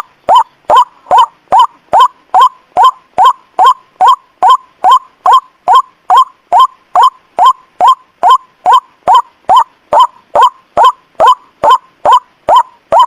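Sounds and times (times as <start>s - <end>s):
waterhen call: 0.0s - 13.0s.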